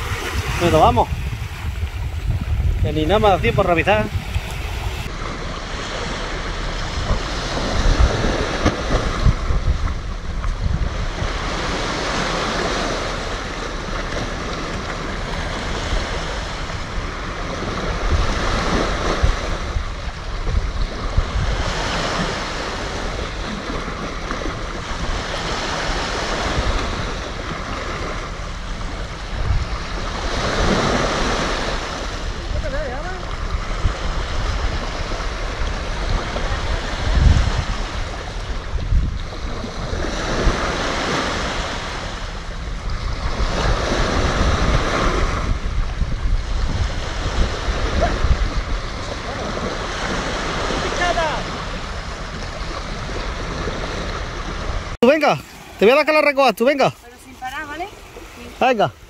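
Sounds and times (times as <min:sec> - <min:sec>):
wind buffeting microphone: 0:00.0 - 0:55.9
sea waves breaking: 0:00.0 - 0:59.0.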